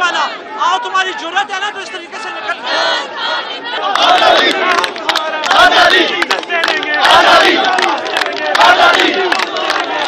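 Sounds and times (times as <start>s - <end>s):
crowd of men shouting: 0.0s - 10.0s.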